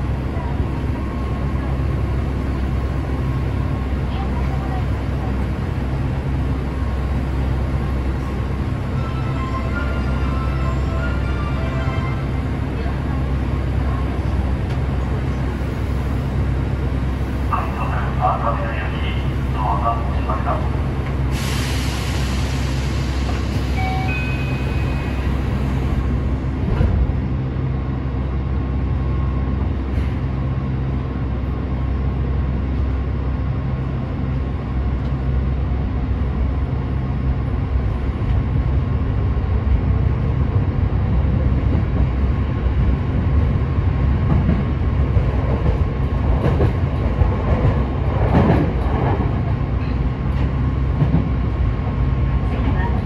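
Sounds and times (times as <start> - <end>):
train wheels rumbling: 0.0 - 53.0.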